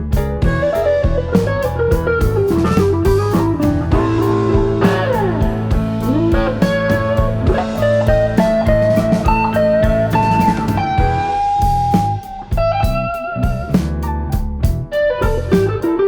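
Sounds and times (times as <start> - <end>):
bass: 0.0 - 16.0
blues electric guitar: 0.0 - 16.0
steady drum beat: 0.0 - 16.0.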